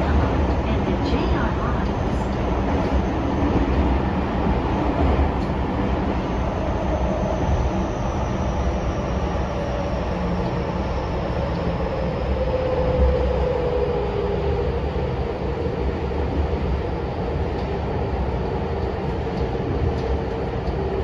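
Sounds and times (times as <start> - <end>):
subway wheels rumbling on rail: 0.0 - 21.0.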